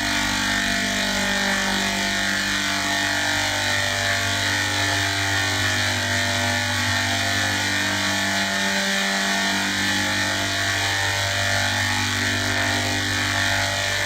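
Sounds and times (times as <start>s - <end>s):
machine whirring hum: 0.0s - 14.0s.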